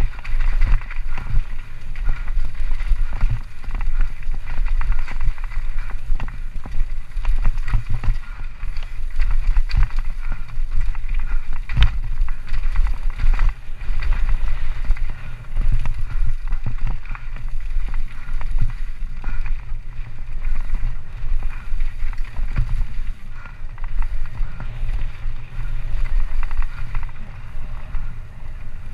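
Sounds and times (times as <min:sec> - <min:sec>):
bike clattering over bumps: 0:00.0 - 0:28.9
wind buffeting microphone: 0:00.0 - 0:28.9.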